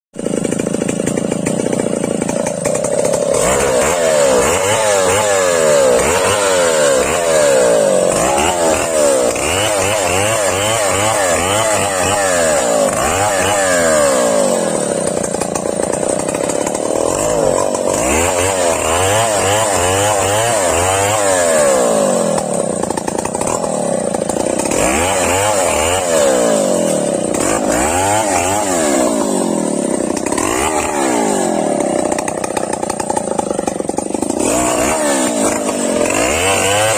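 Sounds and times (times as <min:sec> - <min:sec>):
chainsaw revving: 0:00.2 - 0:36.9.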